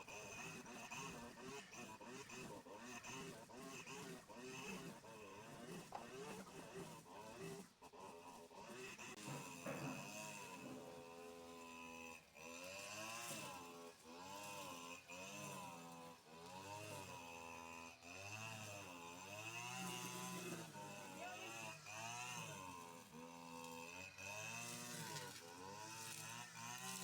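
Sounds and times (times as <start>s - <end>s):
engine revving: 0.0s - 27.0s.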